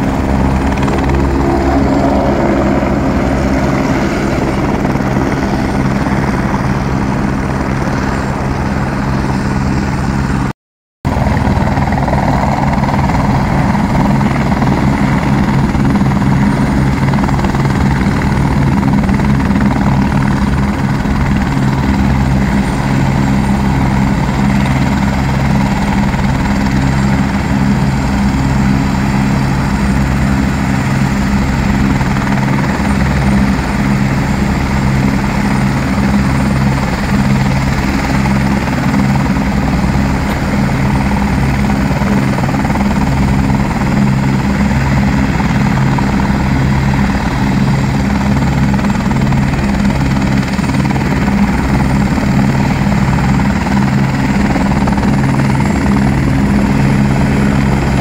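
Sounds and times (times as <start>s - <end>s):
helicopter rotor throbbing: 0.0s - 10.5s, 11.1s - 58.0s.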